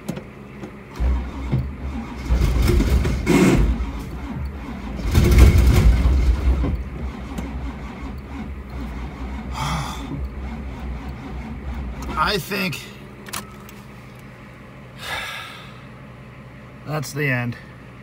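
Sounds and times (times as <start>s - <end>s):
car engine cranking and sputtering: 0.0s - 15.0s.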